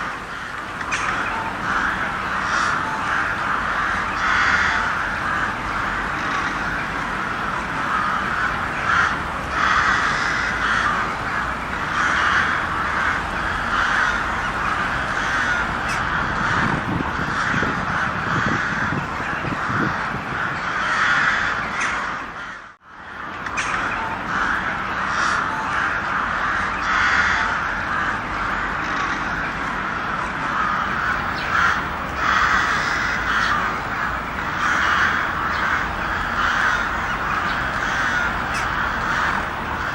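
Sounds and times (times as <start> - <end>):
crows cawing: 0.0 - 39.9.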